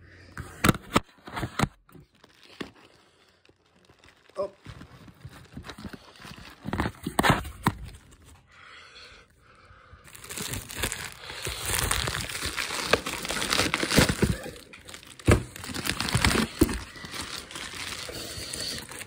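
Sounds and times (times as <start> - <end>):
bubble wrap crinkling: 1.9 - 8.4, 10.1 - 19.0.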